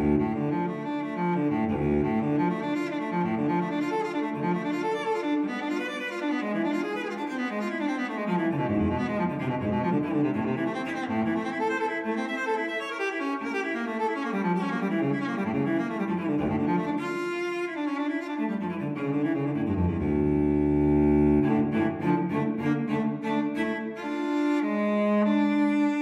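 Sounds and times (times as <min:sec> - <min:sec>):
slow string music: 0:00.0 - 0:26.0.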